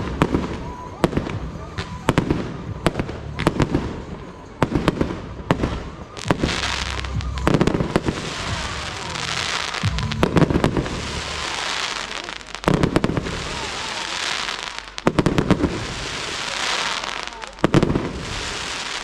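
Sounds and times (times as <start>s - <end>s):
firework crackling: 0.0s - 19.0s.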